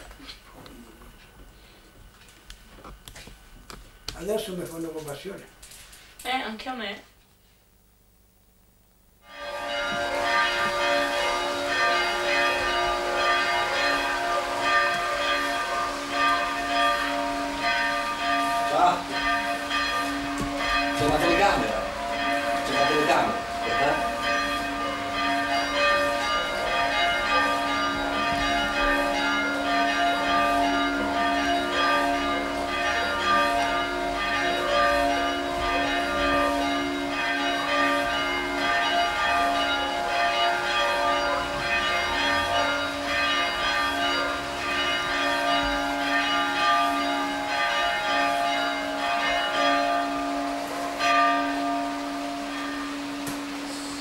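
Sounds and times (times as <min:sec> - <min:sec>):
church bells pealing: 0:09.2 - 0:54.0.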